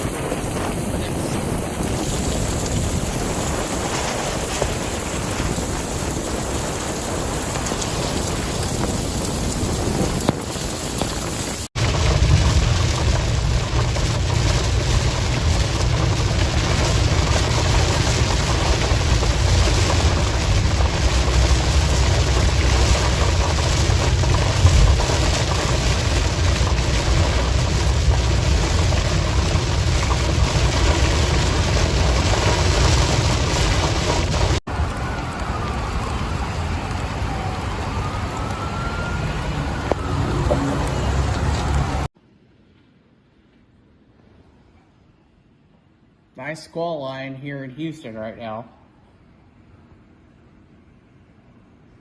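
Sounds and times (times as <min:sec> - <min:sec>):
heavy rain falling: 0:00.0 - 0:42.1
wind buffeting microphone: 0:00.0 - 0:42.1.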